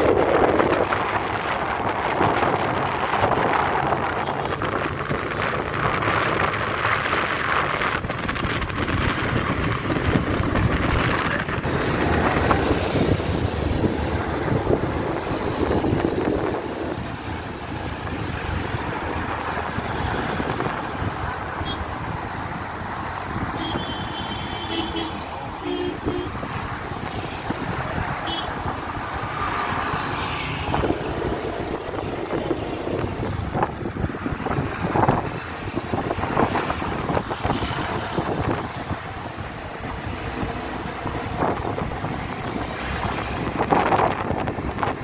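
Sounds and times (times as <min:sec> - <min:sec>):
road traffic noise: 0:00.0 - 0:45.0
wind on microphone: 0:00.0 - 0:45.0.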